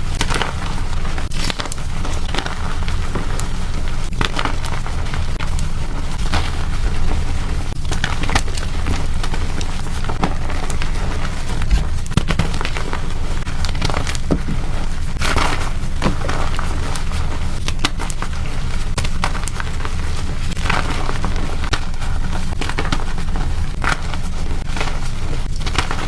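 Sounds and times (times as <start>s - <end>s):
chalk being crushed: 0.0s - 26.0s
steady low hum: 0.0s - 26.0s.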